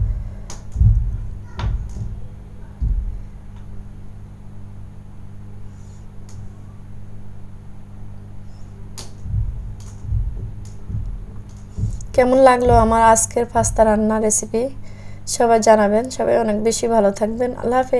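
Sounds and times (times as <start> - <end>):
low hum: 0.0 - 17.9.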